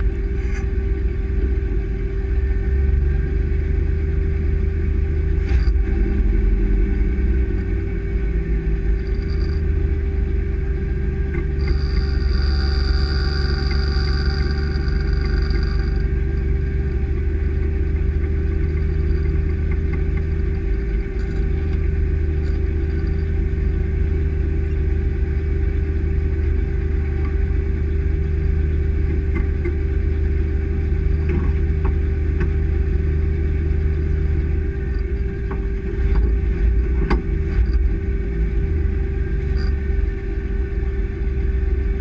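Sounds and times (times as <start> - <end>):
truck engine rumble in cab: 0.0 - 42.0.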